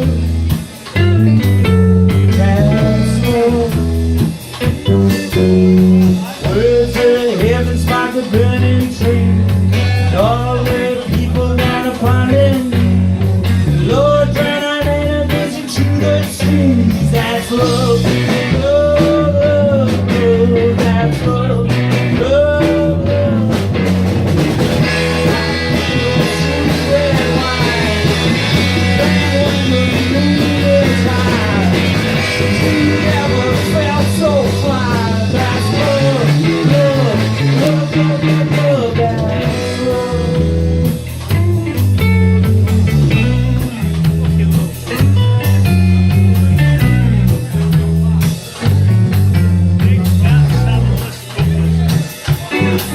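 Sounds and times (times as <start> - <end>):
electric guitar bending notes: 0.0 - 52.9
live rock band playing: 0.0 - 52.9
steady bass line: 0.0 - 52.9.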